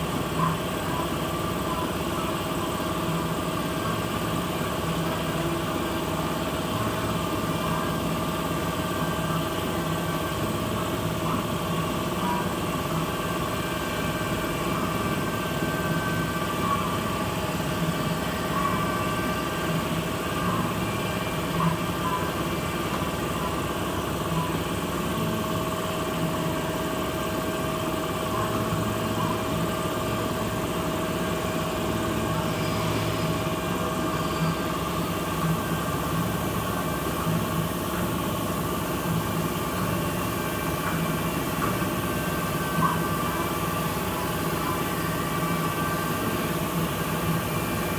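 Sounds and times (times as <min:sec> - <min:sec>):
ride motor humming: 0:00.0 - 0:47.9.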